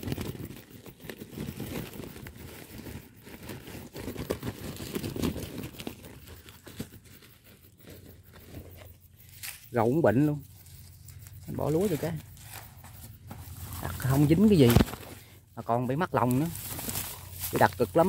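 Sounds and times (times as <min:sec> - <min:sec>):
hands rustling and crinkling: 0:00.0 - 0:18.0.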